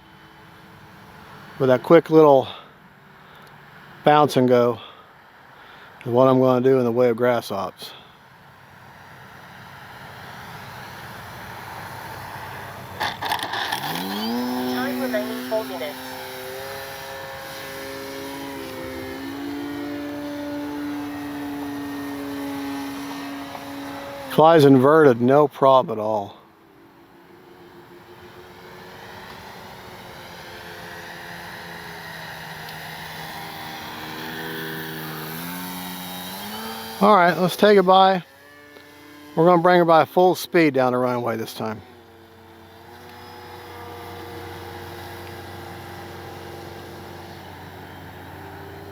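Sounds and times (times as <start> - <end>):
model airplane motor and propeller: 7.4 - 48.9.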